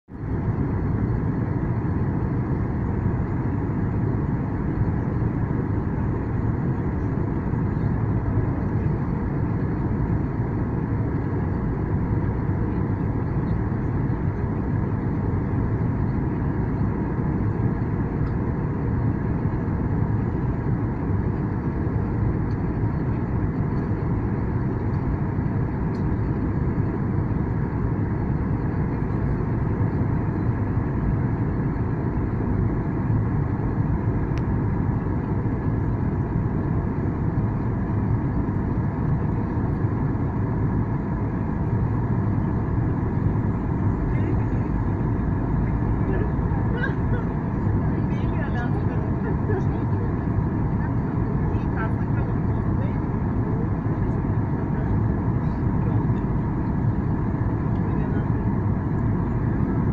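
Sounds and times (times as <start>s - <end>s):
jet engines and airflow rumble: 0.0s - 59.9s
faint steady hum: 0.1s - 59.9s.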